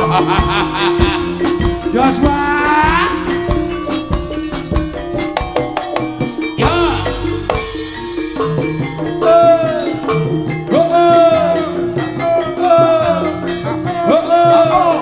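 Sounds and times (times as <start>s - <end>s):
drums in quick rhythm: 0.0s - 15.0s
high pitched melody: 0.0s - 15.0s
ringing gongs and metal percussion: 0.0s - 15.0s.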